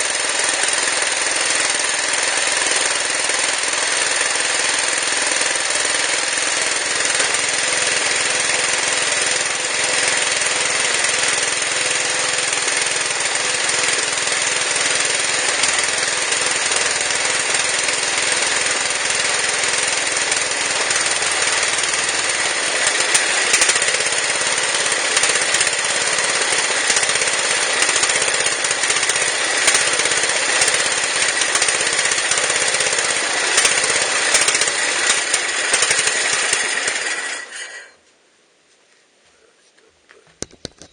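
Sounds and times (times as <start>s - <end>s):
riding lawn mower engine running: 0.0s - 38.0s.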